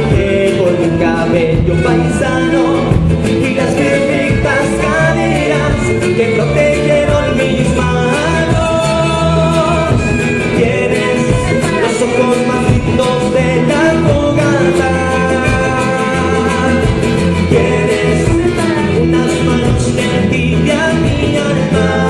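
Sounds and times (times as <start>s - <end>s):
band accompaniment: 0.0s - 22.0s
person singing long notes: 0.0s - 22.0s.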